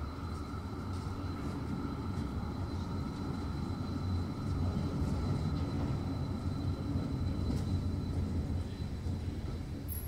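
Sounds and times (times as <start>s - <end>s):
tram rumbling with high whine: 0.0s - 10.0s.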